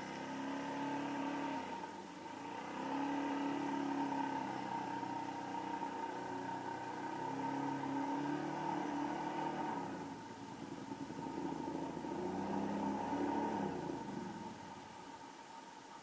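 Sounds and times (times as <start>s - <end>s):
motorcycle engine revving: 0.0s - 15.1s.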